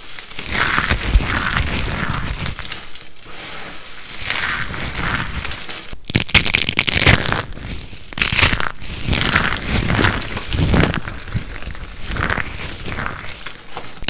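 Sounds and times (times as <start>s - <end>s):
dry soap crunching: 0.0s - 14.0s.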